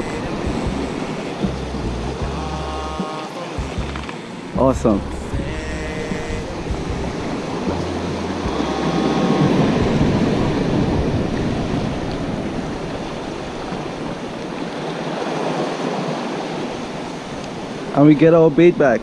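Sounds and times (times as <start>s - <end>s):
sea surf washing against rocks: 0.0s - 19.0s.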